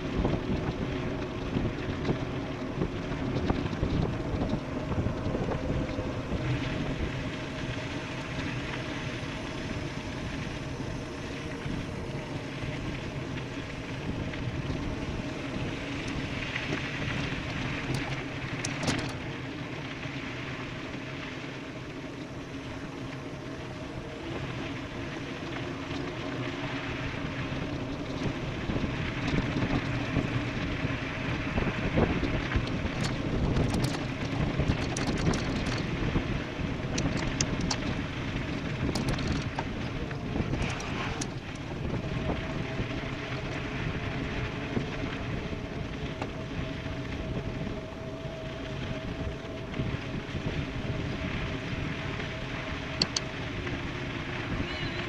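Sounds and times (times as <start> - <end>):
small clicks and rattles: 0.0 - 21.1, 21.7 - 55.0
steady hum: 0.0 - 55.0
tyres rolling on gravel: 0.0 - 55.0
wind rushing over microphone: 0.0 - 55.0.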